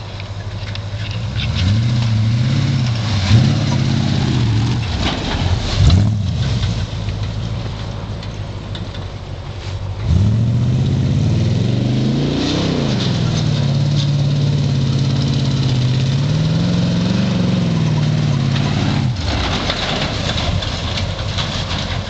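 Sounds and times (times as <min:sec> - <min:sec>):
rushing noise: 0:00.0 - 0:22.0
truck engine revving: 0:00.0 - 0:22.0.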